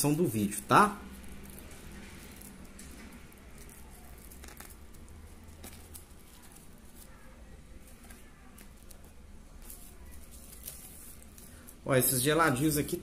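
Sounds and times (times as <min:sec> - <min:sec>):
plastic bag crinkling and rustling: 0:00.3 - 0:13.0.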